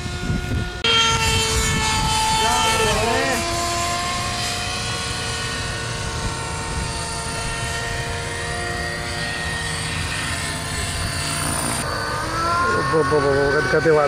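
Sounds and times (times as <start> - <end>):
wind on microphone: 0.0 - 13.8
model airplane engine whine: 0.0 - 14.0.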